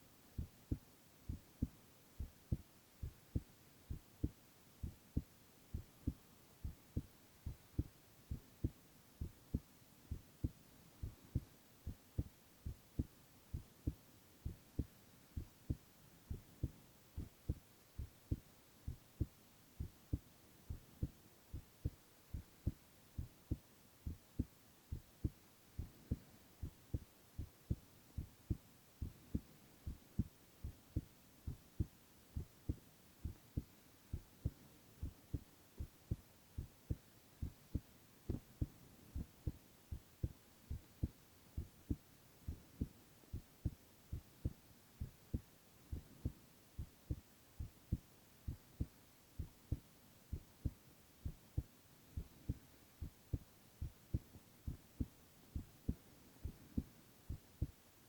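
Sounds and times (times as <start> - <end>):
heartbeat thumps: 0.4 - 57.8.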